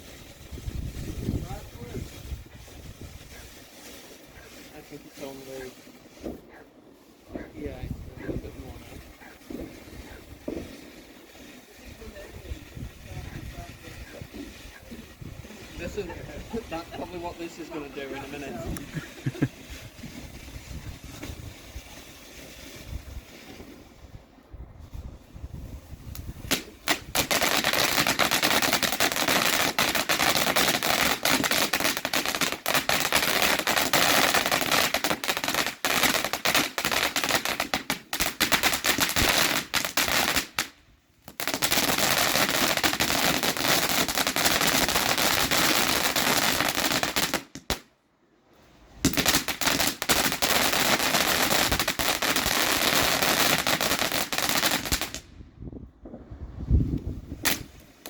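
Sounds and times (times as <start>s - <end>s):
fireworks cracking and banging: 0.0s - 24.2s, 24.8s - 47.9s, 49.0s - 55.3s, 56.0s - 56.4s, 57.1s - 58.0s.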